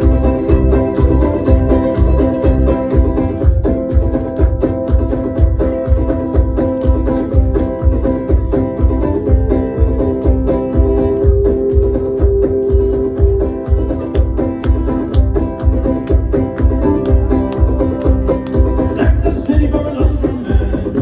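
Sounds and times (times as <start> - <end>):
high rattling percussion: 0.0 - 21.0
low steady drum beat: 0.0 - 21.0.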